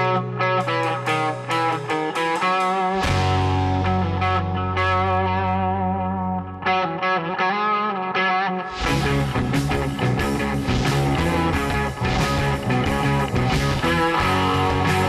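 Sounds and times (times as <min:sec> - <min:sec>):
electric guitar music with effects: 0:00.0 - 0:15.0.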